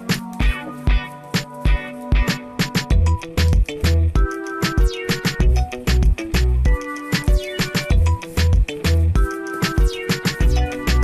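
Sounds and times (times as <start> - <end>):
music with punchy bass beat: 0.0 - 11.0.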